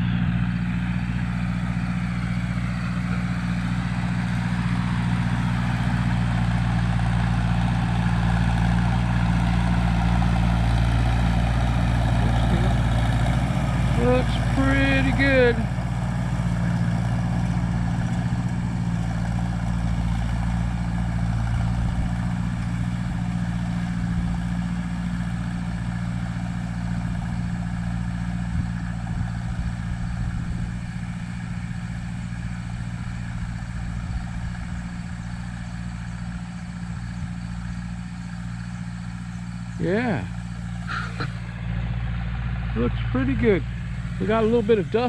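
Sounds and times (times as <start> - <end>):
earthmoving machine engine running: 0.0 - 45.0.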